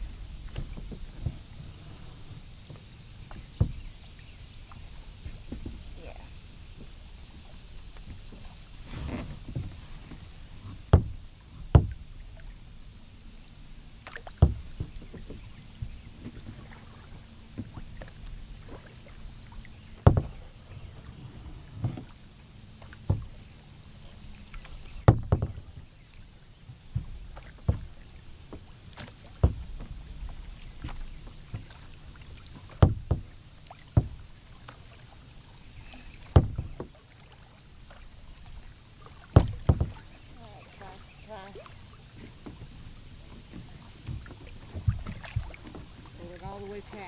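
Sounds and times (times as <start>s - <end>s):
paddle splashing in water: 0.0s - 47.0s
water rushing against hull: 0.0s - 47.0s.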